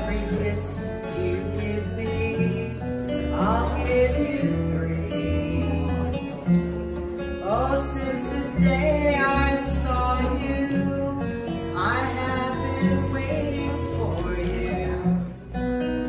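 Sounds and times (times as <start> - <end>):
woman singing a ballad: 0.0 - 6.5, 7.4 - 15.4
strummed acoustic guitar: 0.0 - 16.0.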